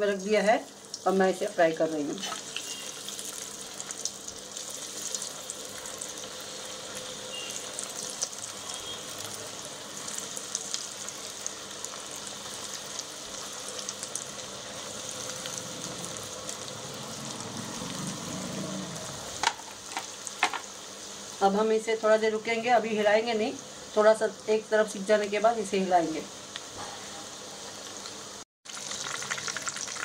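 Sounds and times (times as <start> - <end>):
food deep-frying in hot oil: 0.0 - 30.0.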